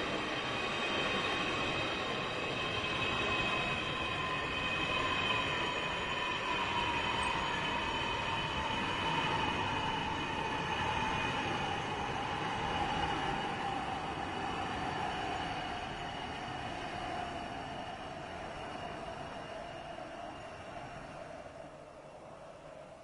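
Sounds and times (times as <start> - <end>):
distant jet engine whine: 0.0 - 23.0.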